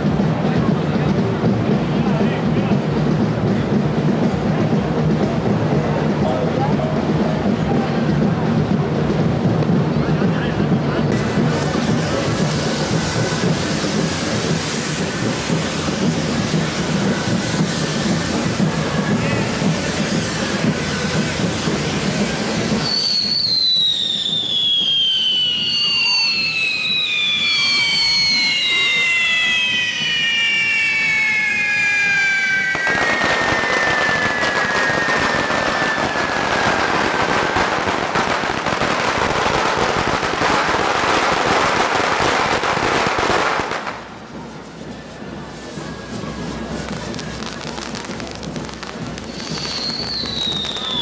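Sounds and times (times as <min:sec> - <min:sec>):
fireworks hissing crackle: 0:00.0 - 0:51.0
whistling fireworks: 0:00.0 - 0:51.0.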